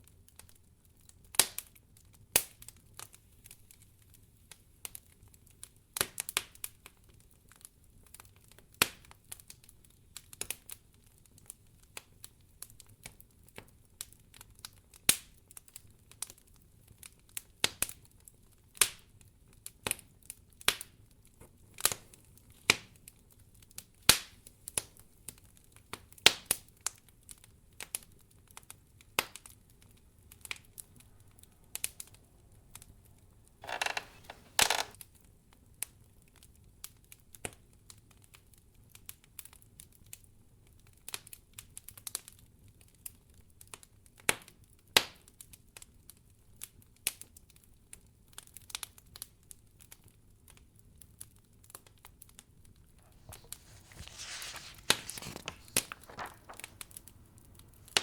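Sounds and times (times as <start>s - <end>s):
wood fire crackling: 0.0s - 40.2s, 44.6s - 58.0s.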